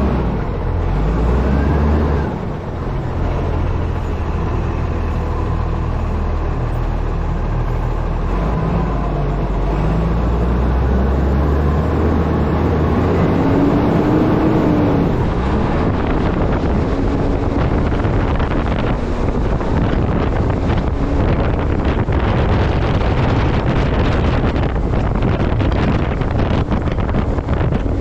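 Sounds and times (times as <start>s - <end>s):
truck engine running: 0.0s - 28.0s
wind rushing over microphone: 0.0s - 28.0s.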